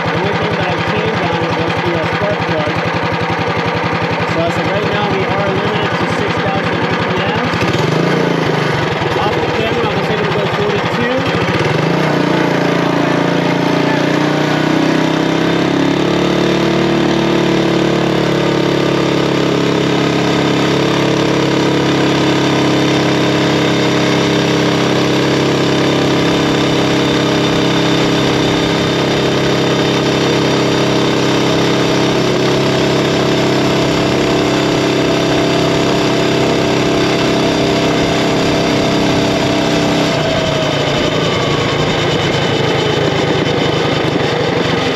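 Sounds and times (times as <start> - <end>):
mini bike engine running hard: 0.0 - 44.9.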